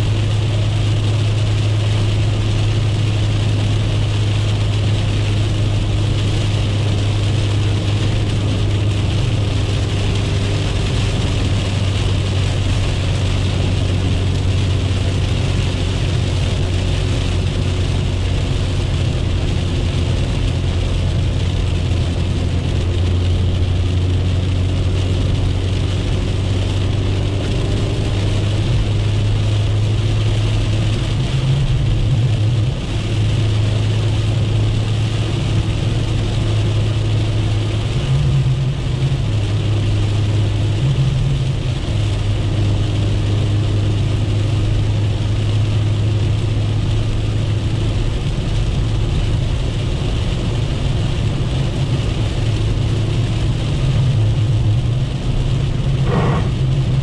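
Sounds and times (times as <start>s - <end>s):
car engine droning: 0.0s - 57.0s
rain and tyres hissing on wet road: 0.0s - 57.0s.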